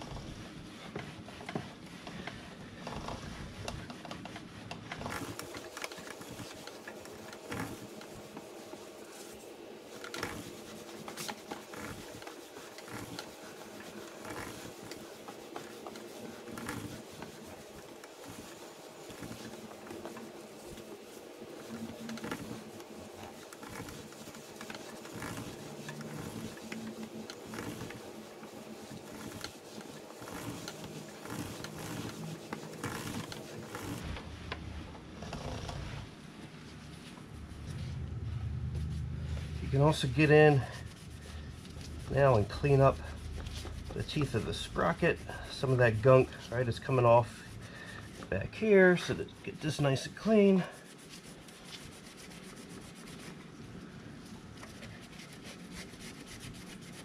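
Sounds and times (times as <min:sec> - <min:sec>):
towel rubbing on chain: 0:00.0 - 0:34.2, 0:35.3 - 0:53.8, 0:54.4 - 0:57.0.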